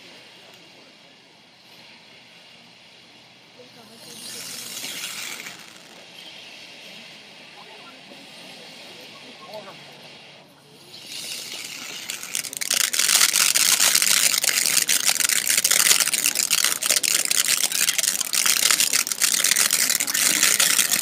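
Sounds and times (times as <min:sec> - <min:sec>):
firework fountain hissing: 0:00.0 - 0:21.0
firework crackles: 0:01.6 - 0:08.8, 0:10.8 - 0:21.0.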